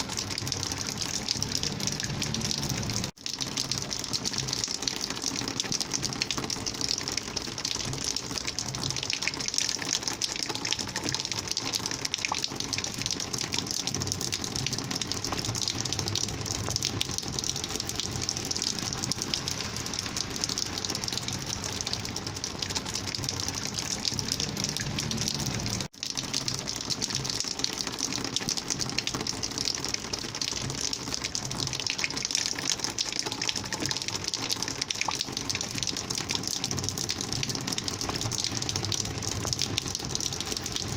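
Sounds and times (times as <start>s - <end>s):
rainwater gushing: 0.0s - 40.9s.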